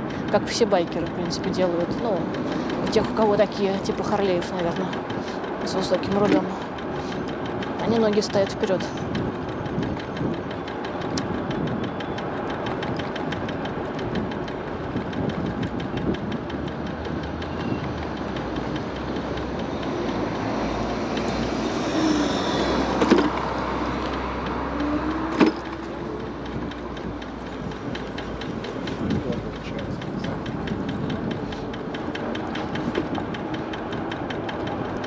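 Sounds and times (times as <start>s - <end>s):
scooter tyre and road noise: 0.0s - 35.0s.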